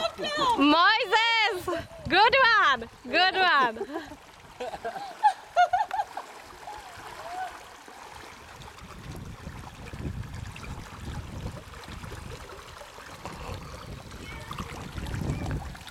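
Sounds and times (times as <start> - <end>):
river water splashing: 0.0 - 15.9.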